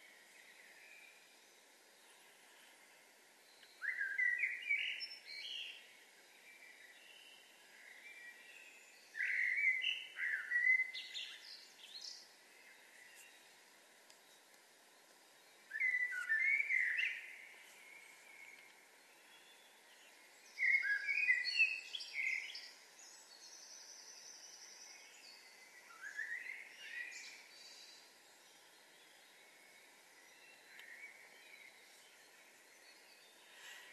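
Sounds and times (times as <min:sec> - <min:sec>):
thin high birdsong: 0:00.0 - 0:33.9
songbird singing sliding notes: 0:03.4 - 0:33.9.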